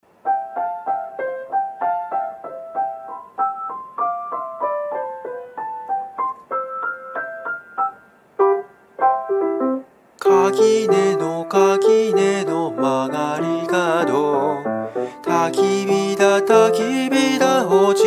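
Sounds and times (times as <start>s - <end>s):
grand piano playing: 0.1s - 18.0s.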